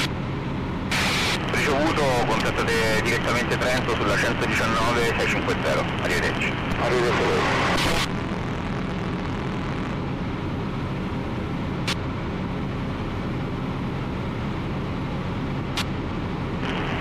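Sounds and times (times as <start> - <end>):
aircraft engine droning: 0.0 - 17.0.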